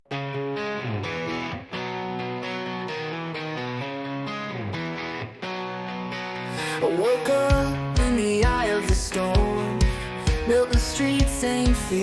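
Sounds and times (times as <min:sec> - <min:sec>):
distorted electric guitar chords: 0:00.1 - 0:12.0.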